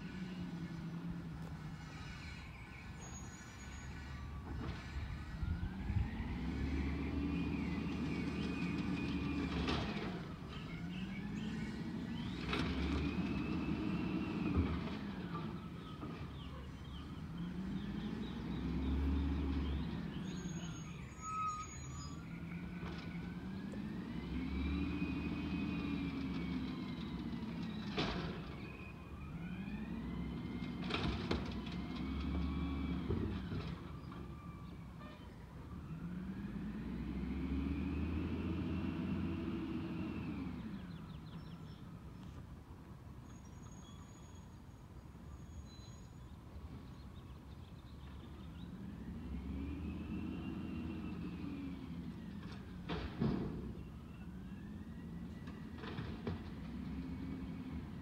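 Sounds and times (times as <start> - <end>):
truck engine and hydraulic pump revving: 0.0 - 58.0.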